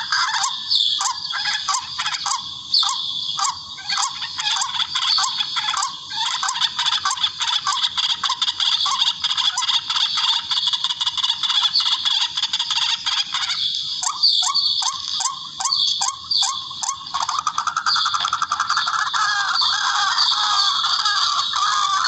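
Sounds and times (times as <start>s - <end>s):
bird chatter: 0.0s - 22.0s
recorded bird calls chorus: 0.0s - 22.0s.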